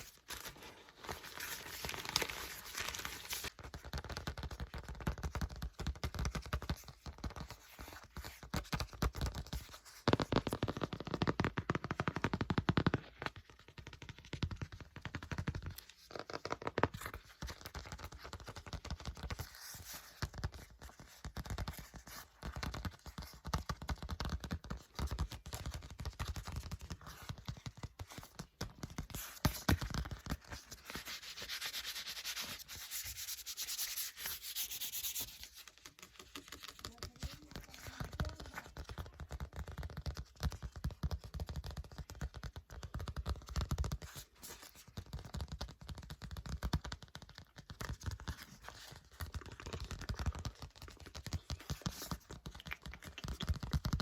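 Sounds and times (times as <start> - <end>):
book pages flipping: 0.0 - 40.7, 43.3 - 54.0.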